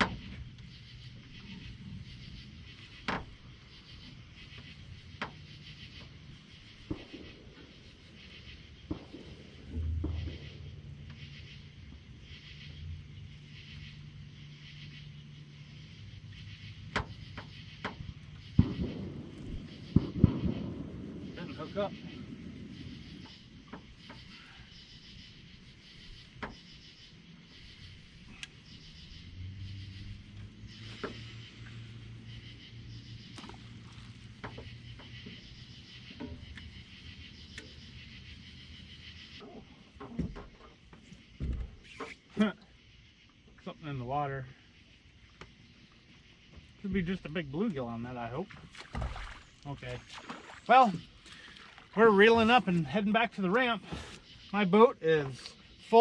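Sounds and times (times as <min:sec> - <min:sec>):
night insects chirping: 0:00.0 - 0:56.0.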